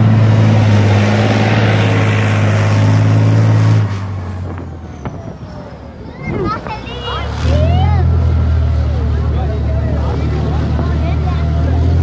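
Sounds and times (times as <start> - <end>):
tank engine drone: 0.0 - 12.0.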